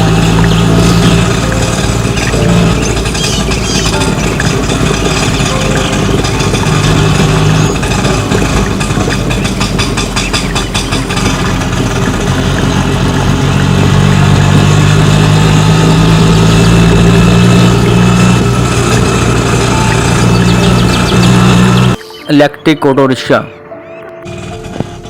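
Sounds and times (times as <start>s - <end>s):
rapid rattle: 0.0s - 21.9s
auto rickshaw engine running: 0.0s - 22.4s, 24.2s - 25.0s.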